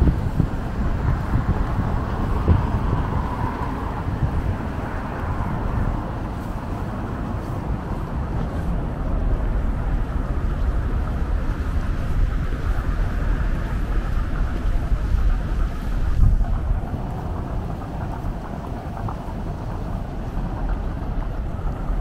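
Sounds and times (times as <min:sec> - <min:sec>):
road traffic rumble: 0:00.0 - 0:22.0
vehicle passing: 0:00.0 - 0:22.0.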